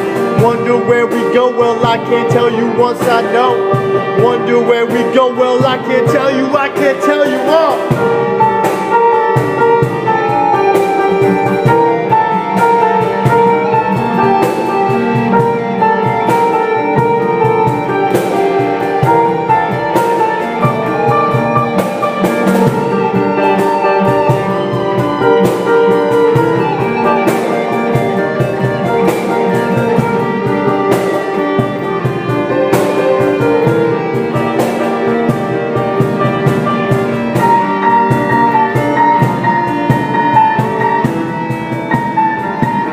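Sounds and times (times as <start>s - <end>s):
drum kit steady beat: 0.0s - 42.9s
guitar: 0.0s - 42.9s.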